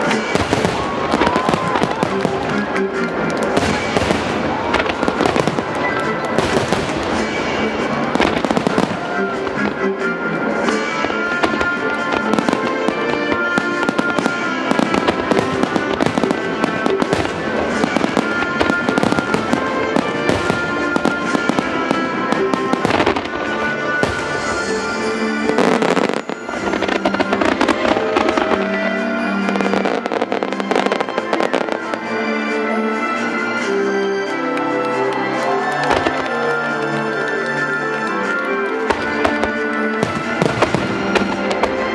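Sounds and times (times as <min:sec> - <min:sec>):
fireworks bursting and crackling: 0:00.0 - 0:41.9
music: 0:00.0 - 0:41.9.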